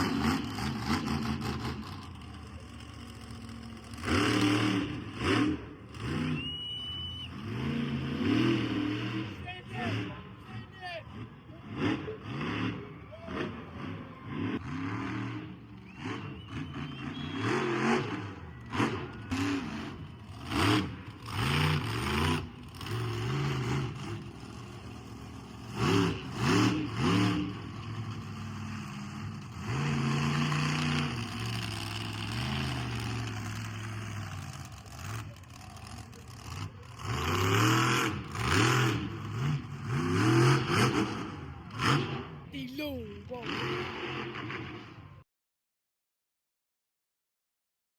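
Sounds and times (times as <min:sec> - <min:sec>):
monster truck engines revving: 0:00.0 - 0:45.2.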